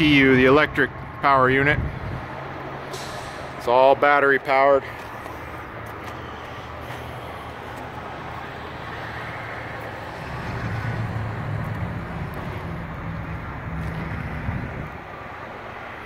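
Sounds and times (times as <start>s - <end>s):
truck engine idling: 2.1s - 15.4s.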